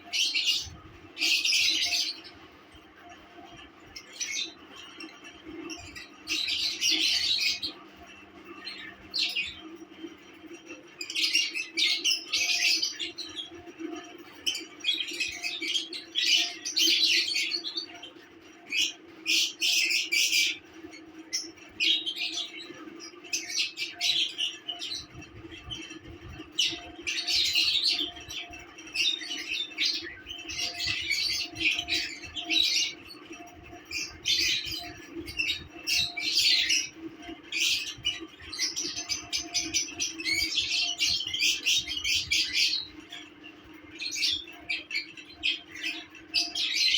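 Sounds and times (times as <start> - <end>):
lovebirds chirping and chattering: 0.0 - 46.9.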